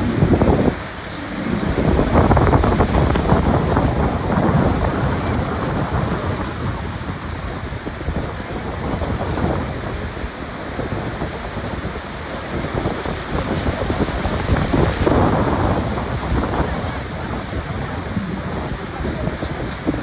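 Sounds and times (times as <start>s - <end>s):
waterfall roaring: 0.0s - 20.0s
wind buffeting microphone: 0.0s - 20.0s.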